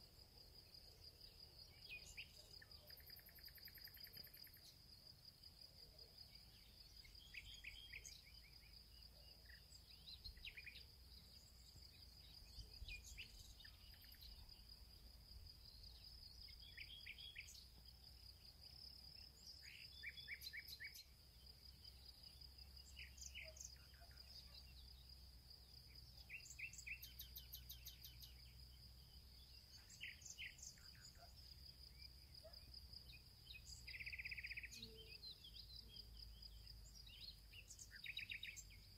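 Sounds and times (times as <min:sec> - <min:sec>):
insect drone: 0:00.0 - 0:38.9.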